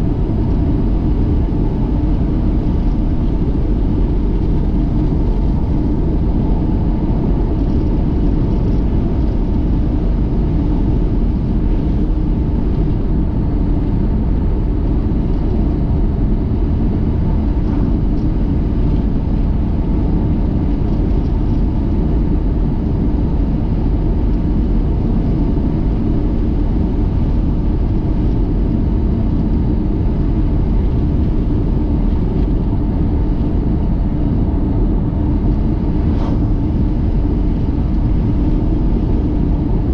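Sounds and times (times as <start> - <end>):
vehicle road and engine rumble: 0.0 - 39.9.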